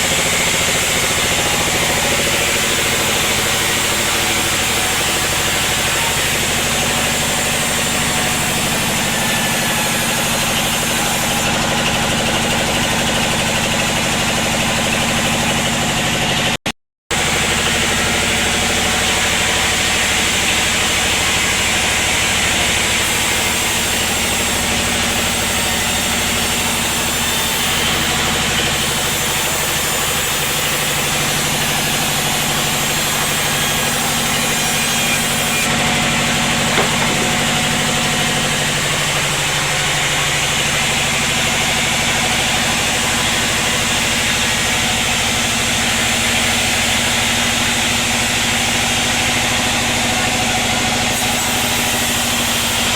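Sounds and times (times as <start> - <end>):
sawmill engine and saw running: 0.0 - 52.9.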